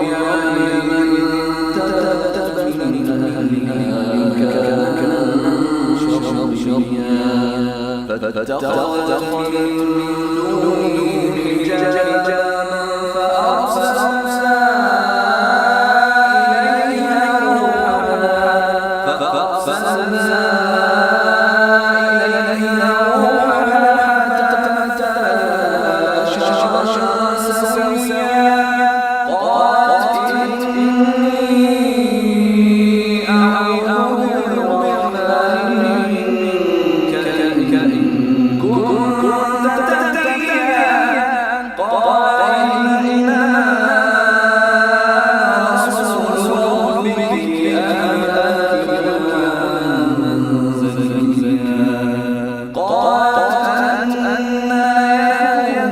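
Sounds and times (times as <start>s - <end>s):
man chanting melodically: 0.0s - 55.9s.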